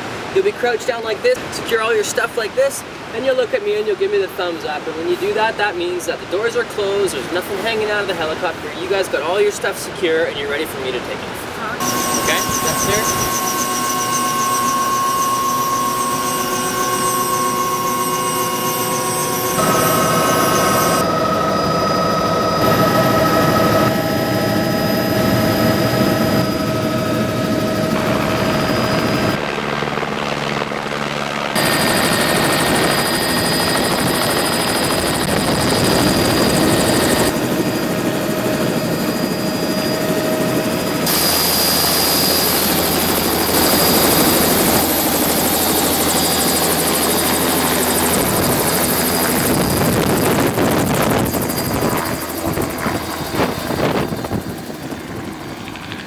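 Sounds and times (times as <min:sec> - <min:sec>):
helicopter turbine and rotor: 0:01.2 - 0:56.0.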